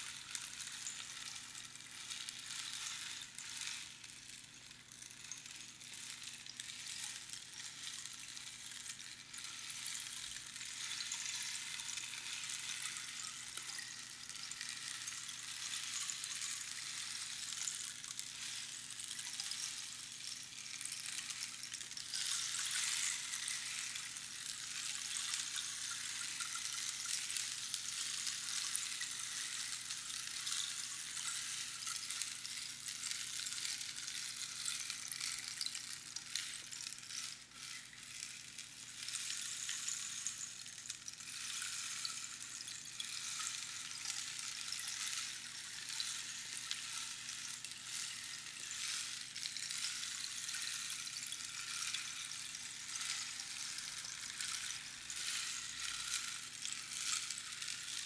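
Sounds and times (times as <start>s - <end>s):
rainstick pebbles trickling: 0.0s - 58.0s.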